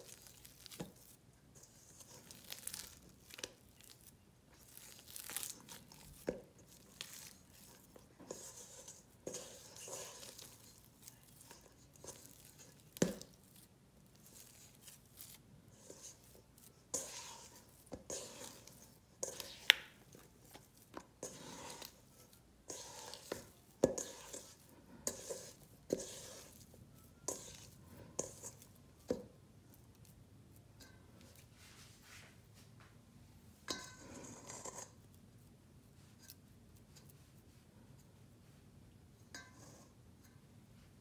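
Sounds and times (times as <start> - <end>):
sticky dough being kneaded: 0.0 - 32.8.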